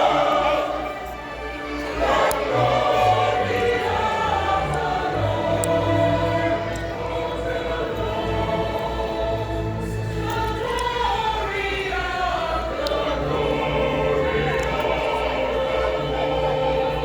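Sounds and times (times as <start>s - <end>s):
choir singing: 0.0s - 17.0s
low musical accompaniment: 0.0s - 17.0s.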